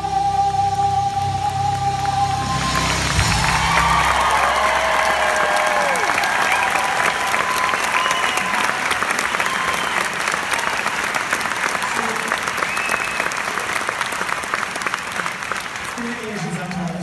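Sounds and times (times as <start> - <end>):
audience applauding: 1.0 - 17.0.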